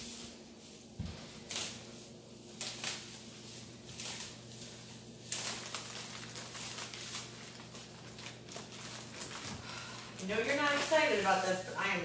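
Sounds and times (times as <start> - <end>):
steady low hum: 0.0 - 12.0
plastic packaging crinkling: 1.0 - 12.0.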